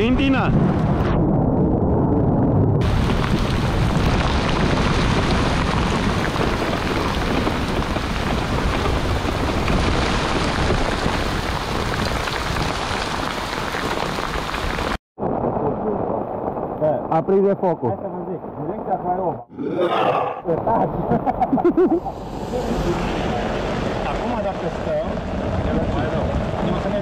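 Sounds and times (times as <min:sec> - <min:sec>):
heavy rain: 0:02.8 - 0:19.3, 0:20.5 - 0:27.0.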